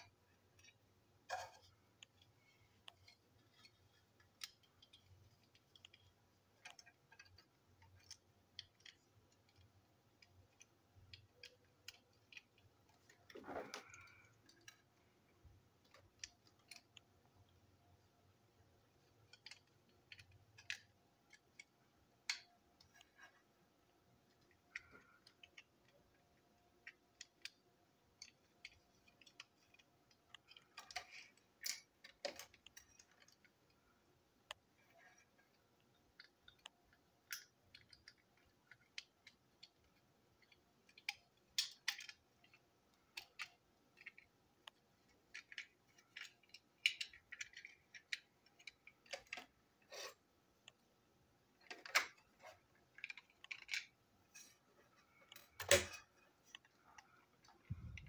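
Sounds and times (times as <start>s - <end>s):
plastic parts clicking: 0.0s - 58.0s.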